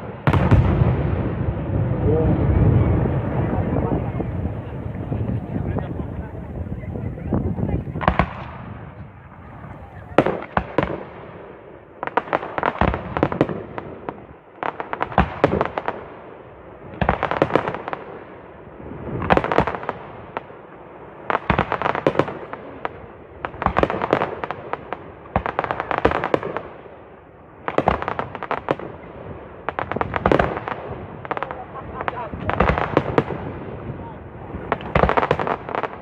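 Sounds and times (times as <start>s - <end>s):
fireworks crackling and bangs: 0.0s - 36.0s.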